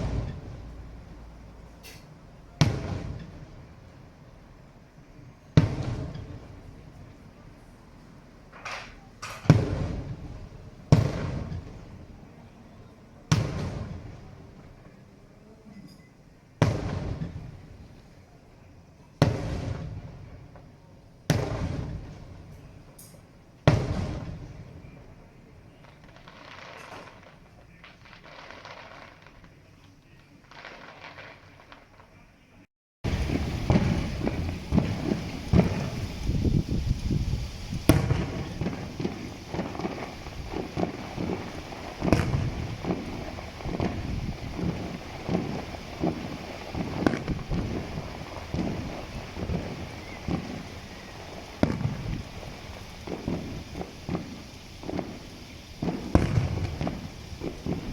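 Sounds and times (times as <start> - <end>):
sharp firework crack: 0.0 - 4.4, 5.5 - 7.4, 8.4 - 12.6, 13.3 - 14.8, 16.6 - 18.2, 19.2 - 32.2, 33.0 - 57.9
fireworks booming: 0.0 - 32.3, 33.0 - 57.9.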